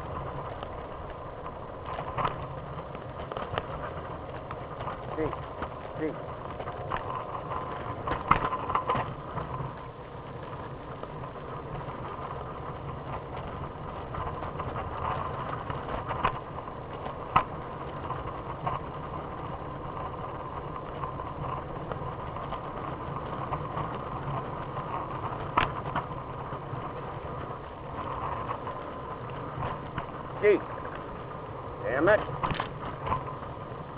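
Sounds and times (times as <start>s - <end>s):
muffled scooter rolling rumble: 0.0s - 33.9s.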